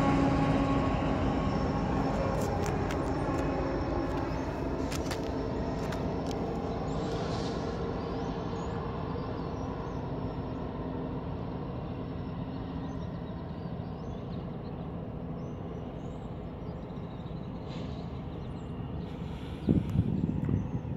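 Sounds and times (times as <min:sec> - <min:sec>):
diesel locomotives rumbling: 0:00.0 - 0:20.9.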